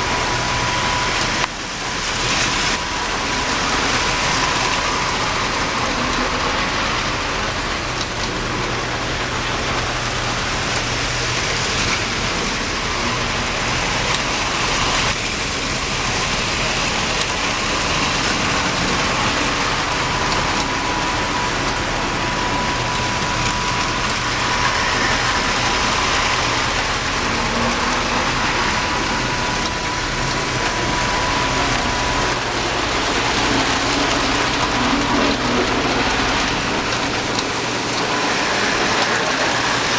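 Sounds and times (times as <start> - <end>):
toy trains rolling on track: 0.0 - 39.9.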